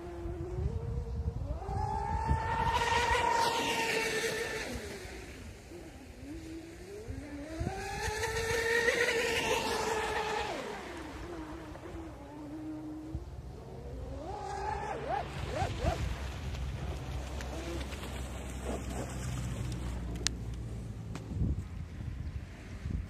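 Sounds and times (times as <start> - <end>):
model boat electric motors whining: 0.0 - 21.0.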